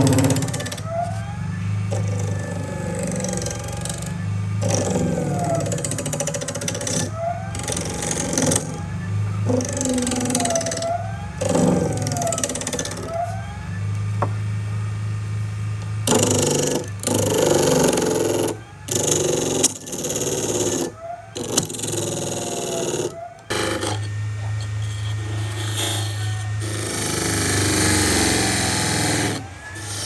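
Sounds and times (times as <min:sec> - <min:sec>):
power tools machining wood: 0:00.0 - 0:01.3, 0:01.9 - 0:13.6, 0:16.1 - 0:30.0
motor hum: 0:00.0 - 0:30.0.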